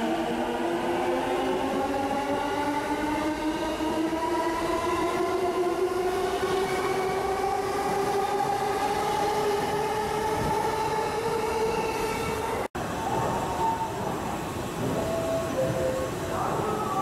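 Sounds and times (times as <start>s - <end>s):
rumble of train cars: 0.0s - 17.0s.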